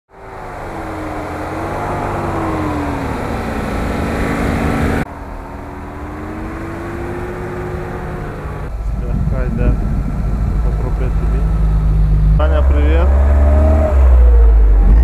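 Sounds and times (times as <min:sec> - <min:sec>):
engine under load: 0:00.1 - 0:15.0.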